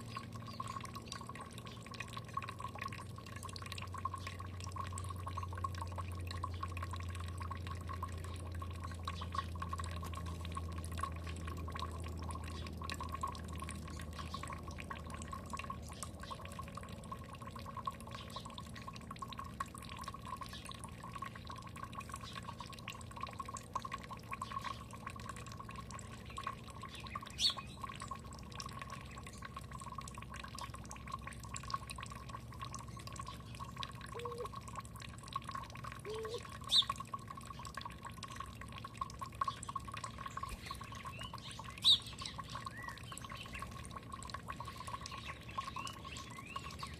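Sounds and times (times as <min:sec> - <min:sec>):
water dripping and trickling: 0:00.0 - 0:46.9.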